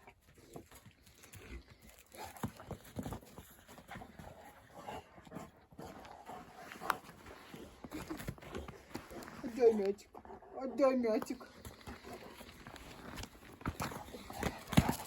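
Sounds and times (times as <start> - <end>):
dog paws and ball scraping ground: 0.0 - 15.0.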